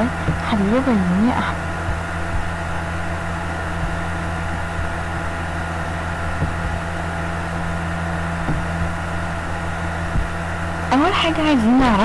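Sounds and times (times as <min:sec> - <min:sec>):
low electrical hum with hiss: 0:00.0 - 0:12.0.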